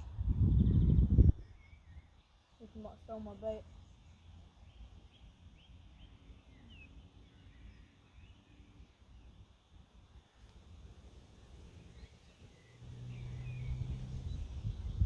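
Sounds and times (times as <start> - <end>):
faint bird chirps: 0.0 - 9.6, 11.7 - 15.0.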